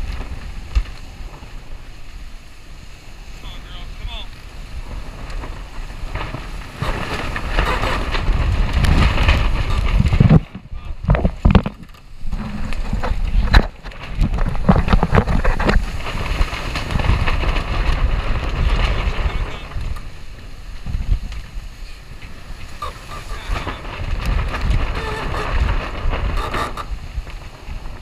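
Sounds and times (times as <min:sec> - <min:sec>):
rushing water and spray: 0:00.0 - 0:28.0
wind buffeting microphone: 0:00.0 - 0:28.0.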